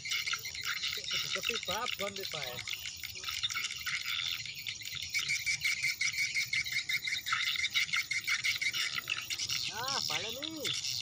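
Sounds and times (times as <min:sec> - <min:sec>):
frogs calling: 0:00.0 - 0:11.0
insects calling: 0:00.0 - 0:11.0.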